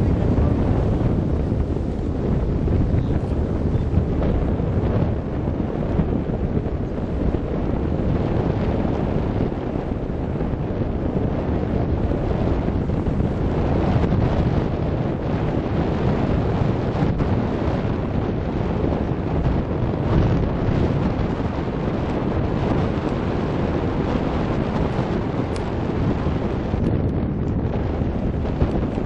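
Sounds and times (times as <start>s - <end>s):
boat rushing through water: 0.0s - 29.0s
wind buffeting microphone: 0.0s - 29.0s.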